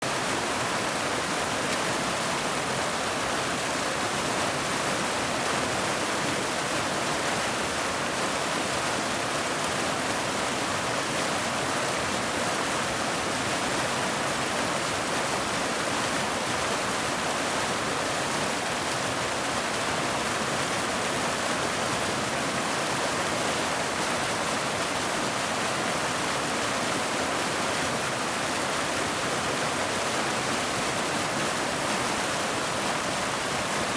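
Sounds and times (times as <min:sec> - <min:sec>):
water flowing over rocks: 0:00.0 - 0:33.9.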